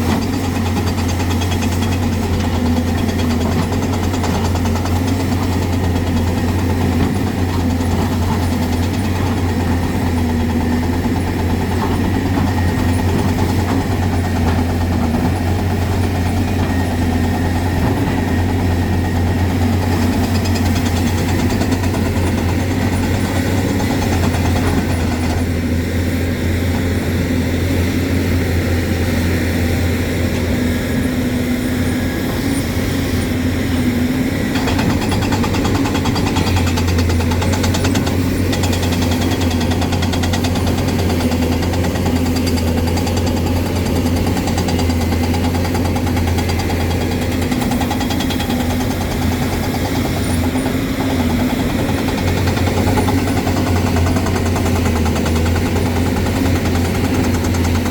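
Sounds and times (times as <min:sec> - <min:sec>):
excavator diesel engine humming: 0:00.0 - 0:57.9.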